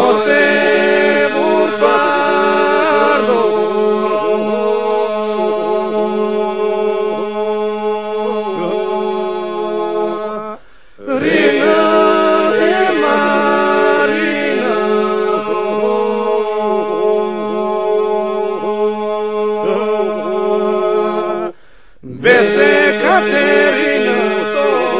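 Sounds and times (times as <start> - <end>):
men's group singing a cappella: 0.0 - 24.9.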